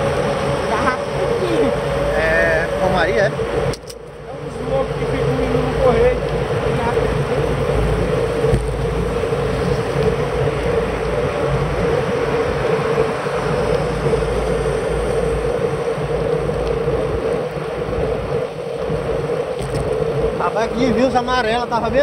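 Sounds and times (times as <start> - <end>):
bicycle tyre noise on road: 0.0 - 22.0
wind rushing on microphone: 0.0 - 22.0.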